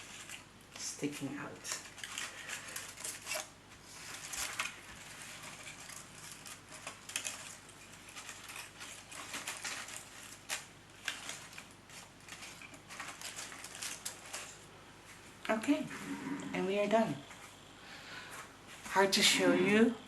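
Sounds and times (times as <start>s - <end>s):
flower stems rustling and crackling: 0.0s - 20.0s.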